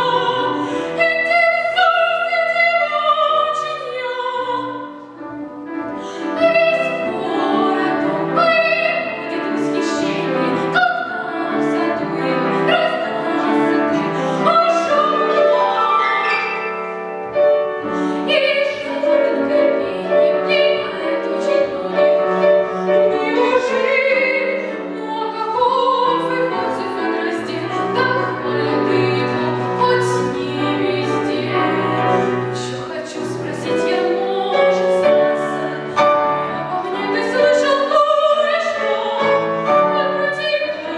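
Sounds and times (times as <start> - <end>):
piano accompaniment: 0.0 - 40.9.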